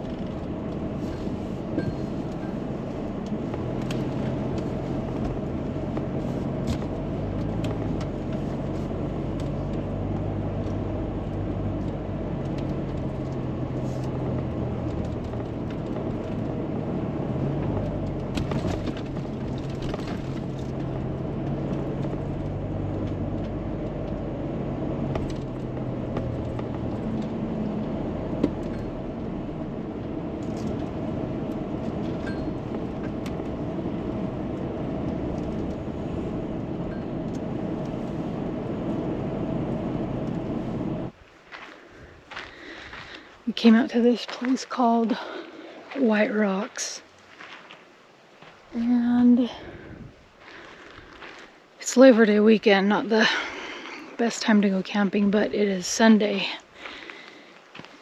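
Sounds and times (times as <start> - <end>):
car engine hum: 0.0 - 58.0
road rumble: 0.0 - 58.0.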